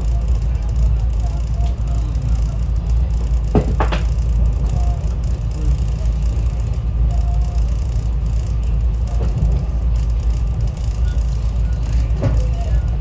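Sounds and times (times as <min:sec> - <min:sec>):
train rumbling inside passenger car: 0:00.0 - 0:13.0.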